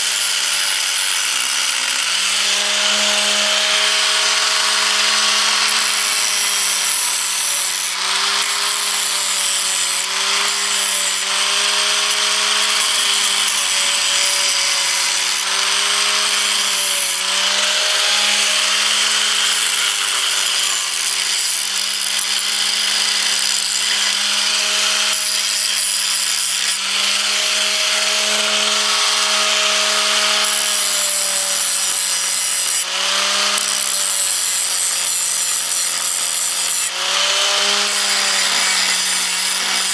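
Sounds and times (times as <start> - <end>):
electric grinder grinding metal: 0.0 - 39.9.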